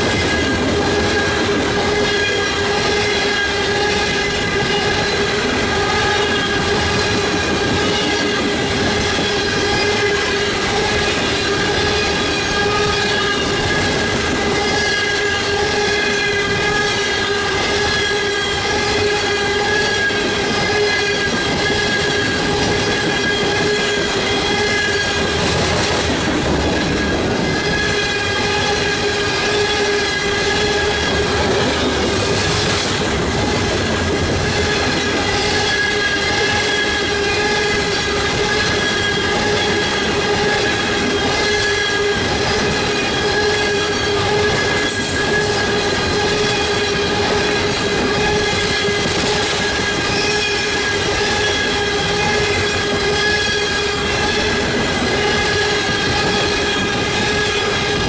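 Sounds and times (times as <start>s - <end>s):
ringing wheel squeal: 0.0s - 58.0s
steel wheels rumbling on rail: 0.0s - 58.0s.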